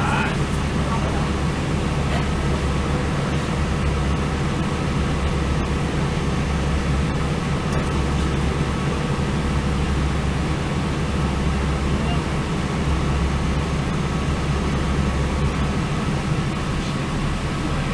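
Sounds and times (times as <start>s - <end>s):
diesel train rumbling: 0.0s - 17.9s.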